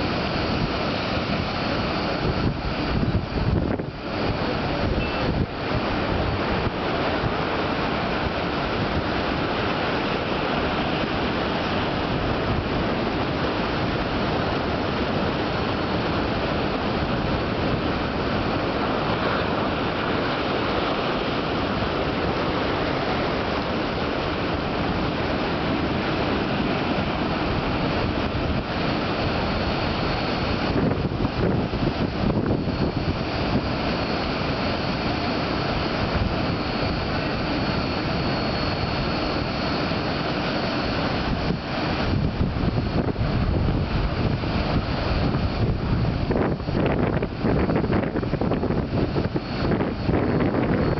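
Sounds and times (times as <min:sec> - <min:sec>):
ocean waves breaking: 0:00.0 - 0:47.6
wind buffeting microphone: 0:00.0 - 0:50.9.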